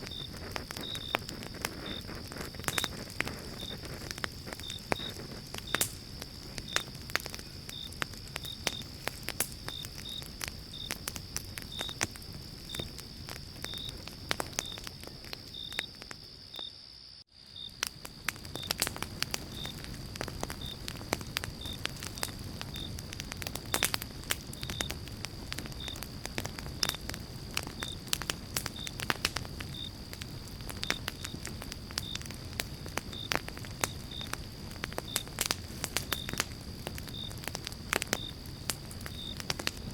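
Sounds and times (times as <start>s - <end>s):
campfire crackling and popping: 0.0s - 39.9s
insect chirps: 0.0s - 39.9s.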